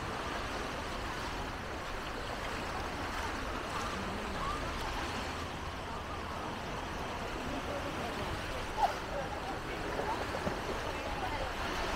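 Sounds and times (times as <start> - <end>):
outdoor background noise: 0.0 - 11.9
distant chatter of voices: 1.9 - 11.9.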